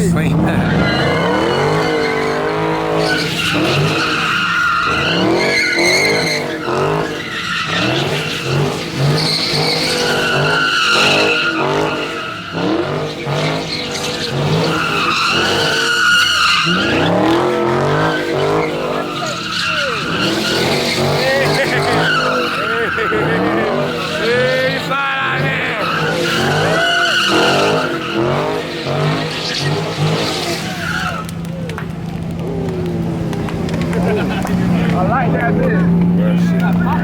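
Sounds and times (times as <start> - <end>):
car engine revving: 0.0 - 37.0
tyres squealing: 0.0 - 37.0.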